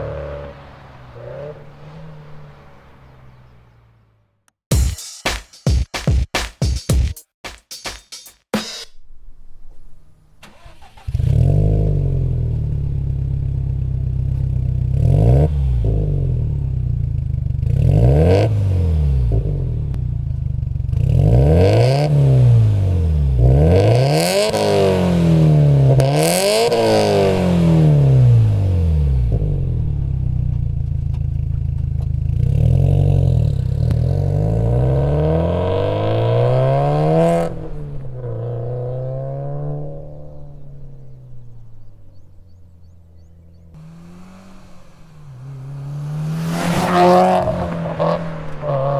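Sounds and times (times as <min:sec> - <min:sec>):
car engine idling and revving: 0:00.0 - 0:04.6, 0:09.0 - 0:48.9.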